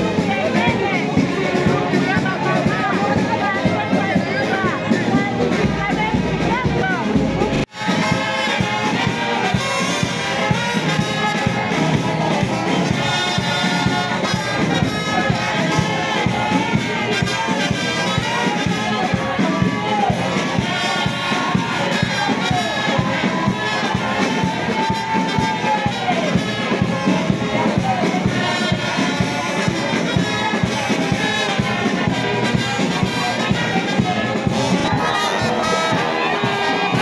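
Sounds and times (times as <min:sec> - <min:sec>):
crowd: 0:00.0 - 0:37.0
marching brass band: 0:00.0 - 0:37.0.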